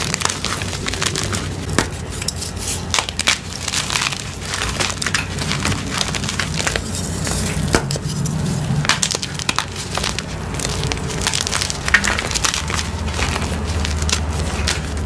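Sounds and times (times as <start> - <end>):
chalk blocks crunching in hands: 0.0 - 15.0.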